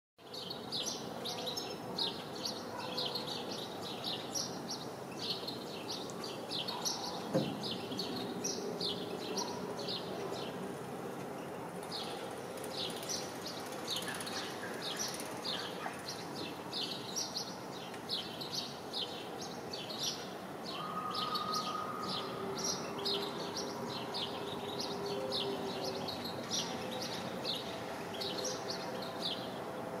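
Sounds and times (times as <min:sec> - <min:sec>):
small songbirds chirping: 0:00.2 - 0:10.7, 0:11.3 - 0:30.0
steady background noise: 0:00.3 - 0:30.0.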